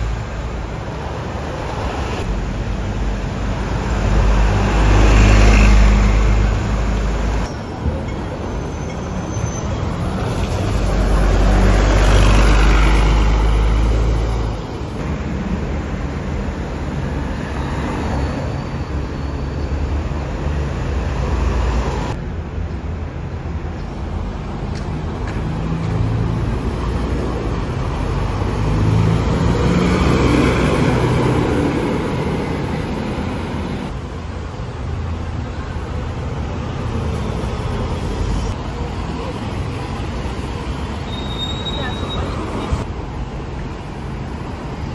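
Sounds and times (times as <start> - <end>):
buses driving past: 0.0 - 44.9
street traffic: 0.0 - 44.9.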